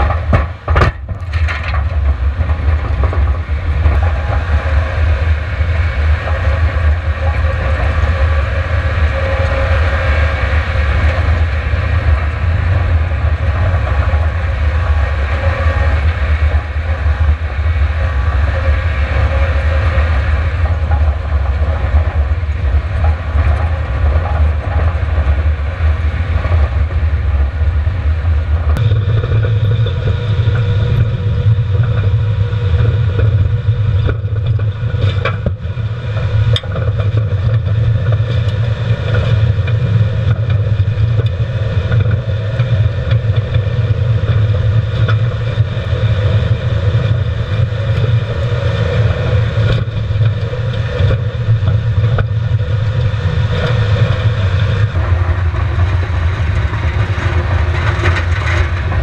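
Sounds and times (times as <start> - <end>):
tyres rumbling over gravel: 0.0 - 27.7, 28.6 - 59.0
car engine drone: 0.0 - 59.0.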